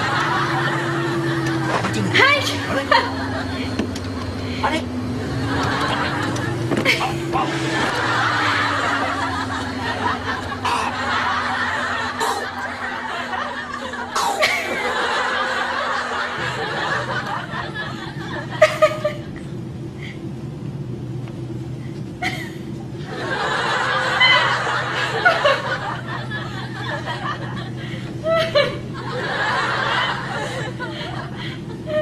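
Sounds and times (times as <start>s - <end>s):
people laughing: 0.0s - 19.5s, 22.2s - 32.0s
steady low hum: 0.0s - 32.0s.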